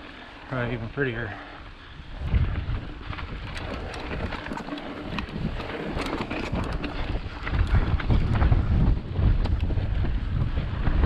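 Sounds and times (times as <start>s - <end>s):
bike clicks and rattles: 0.0s - 11.0s
wind buffeting microphone: 0.6s - 11.0s.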